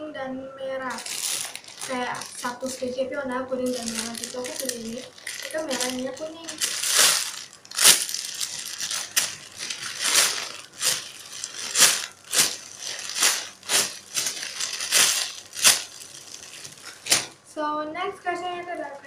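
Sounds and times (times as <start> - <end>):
plastic bag crinkling: 0.8 - 17.4, 18.5 - 19.0.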